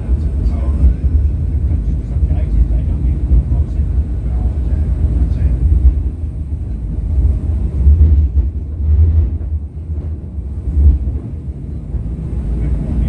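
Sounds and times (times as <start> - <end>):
tram rumble from inside: 0.0 - 13.0.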